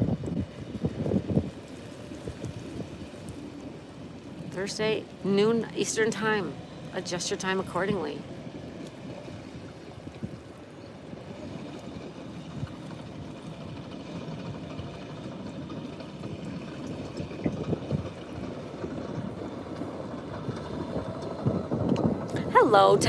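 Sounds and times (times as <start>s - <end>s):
surf on a beach: 0.0s - 23.0s
wind: 0.0s - 23.0s
wind buffeting microphone: 0.0s - 23.0s.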